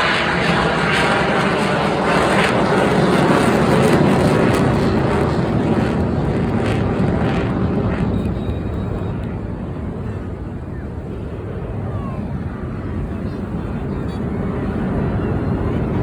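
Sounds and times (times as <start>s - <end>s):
aircraft flying past: 0.0s - 16.0s.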